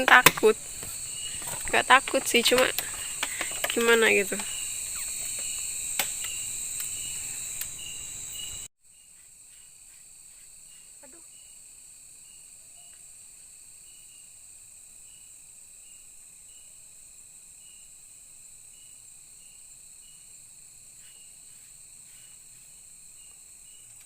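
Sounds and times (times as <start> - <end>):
insect chirping in short pulses: 0.0 - 17.0, 17.6 - 24.0
insect high-pitched trill: 0.0 - 24.0.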